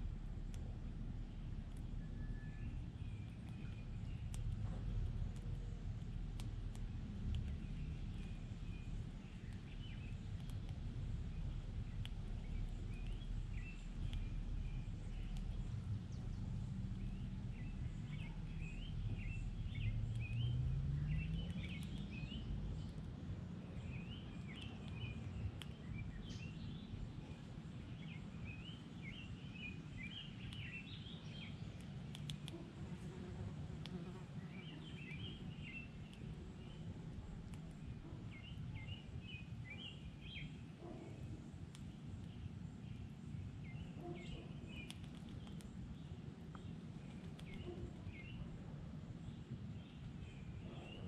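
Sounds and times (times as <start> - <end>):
low background rumble: 0.0 - 51.0
songbirds chirping: 0.0 - 51.0.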